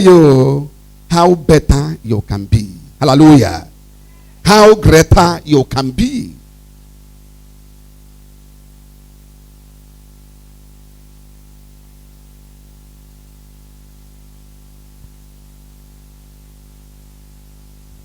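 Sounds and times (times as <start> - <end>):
electrical hum with hiss: 0.0 - 18.0.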